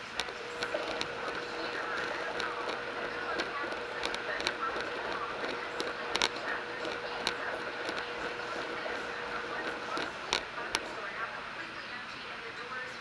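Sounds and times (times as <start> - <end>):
sharp clicks: 0.0 - 11.1
machinery humming: 0.0 - 11.9.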